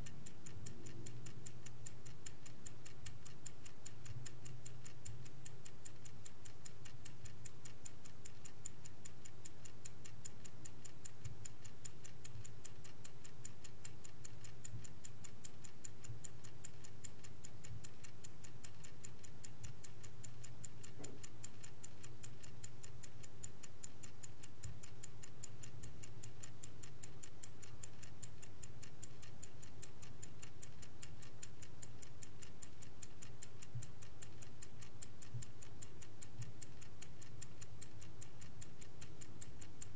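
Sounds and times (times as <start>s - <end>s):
clock ticking: 0.0s - 39.9s
low steady hum: 0.0s - 39.9s.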